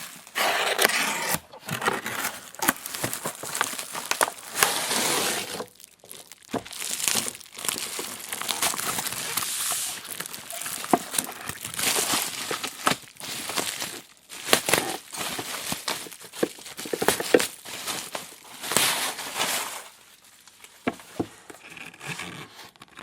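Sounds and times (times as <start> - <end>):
plastic packaging crinkling: 0.0 - 21.7.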